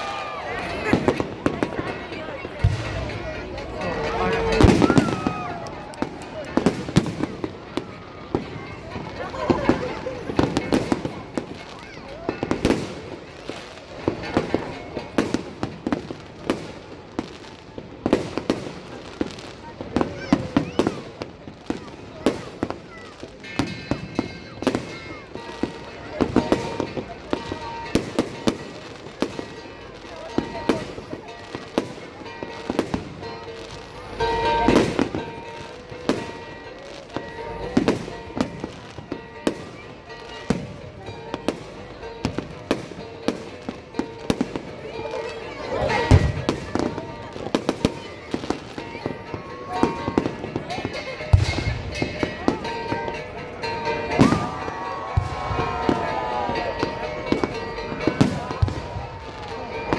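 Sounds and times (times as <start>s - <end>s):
music playing: 0.0s - 15.8s, 23.3s - 59.9s
fireworks bursting with echo: 0.0s - 59.9s.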